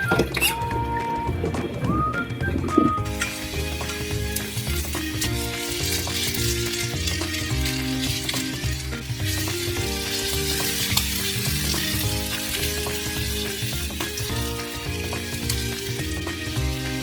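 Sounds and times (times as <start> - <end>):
ginger sizzling in a pan: 2.9 - 17.0.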